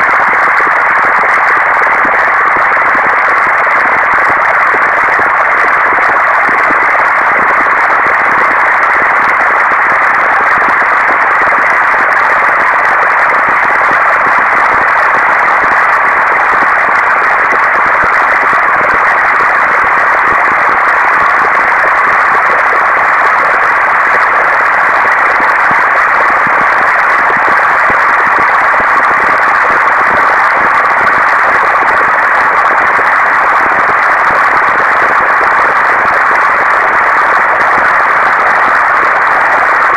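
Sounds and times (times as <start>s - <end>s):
dense digital noise rush: 0.0s - 39.9s.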